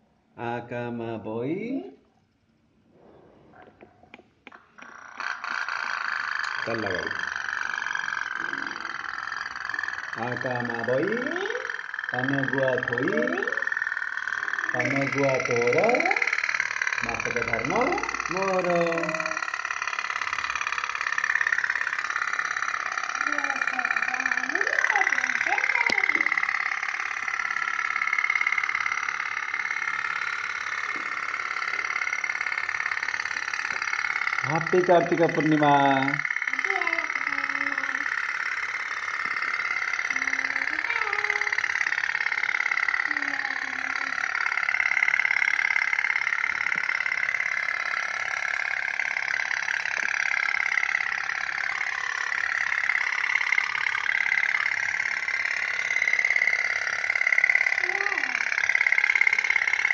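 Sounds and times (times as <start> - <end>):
toy steam boat putt-putt: 3.9 - 59.9.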